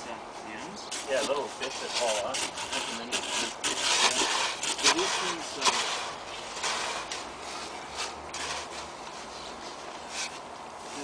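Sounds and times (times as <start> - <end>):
spade scraping gritty soil: 0.8 - 10.4.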